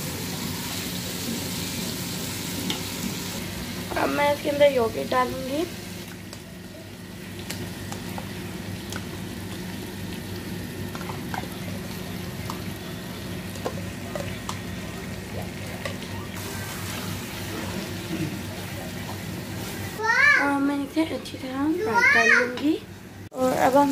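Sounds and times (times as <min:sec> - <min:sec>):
masala sizzling in a pot: 0:00.0 - 0:23.9.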